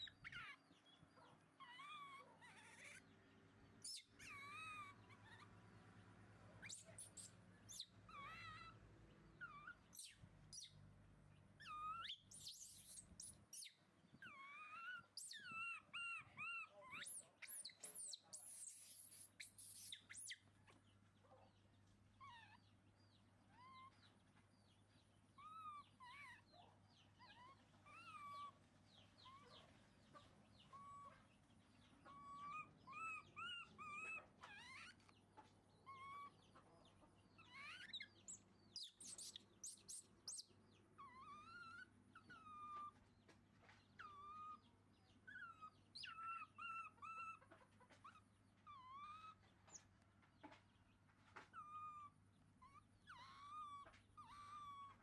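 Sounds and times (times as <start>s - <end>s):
baby monkeys squeaky calls: 0.0s - 3.1s, 3.8s - 5.8s, 6.6s - 10.8s, 11.6s - 20.9s, 22.1s - 22.7s, 23.5s - 24.1s, 25.4s - 31.4s, 32.0s - 35.2s, 35.8s - 50.6s, 51.4s - 55.0s.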